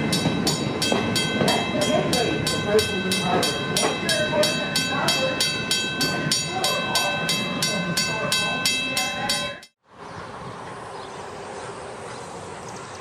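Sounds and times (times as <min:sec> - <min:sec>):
steam locomotive exhaust beats: 0:00.0 - 0:12.8.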